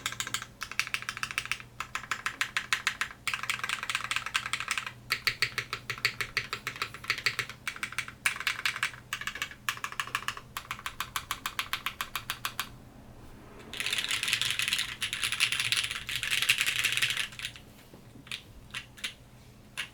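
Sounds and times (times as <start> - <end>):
mechanical keyboard typing: 0.0 - 12.7, 13.8 - 17.6.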